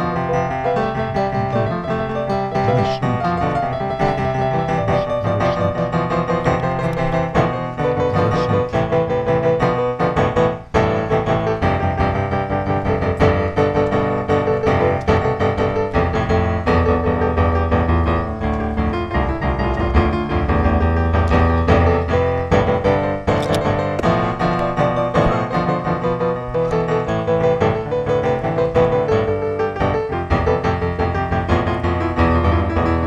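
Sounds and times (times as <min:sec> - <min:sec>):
piano music with bass line: 0:00.0 - 0:33.0.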